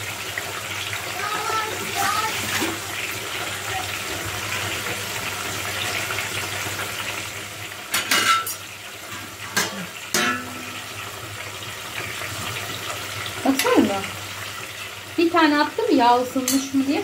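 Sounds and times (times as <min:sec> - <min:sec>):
cauliflower sizzling in hot oil: 0:00.0 - 0:17.0.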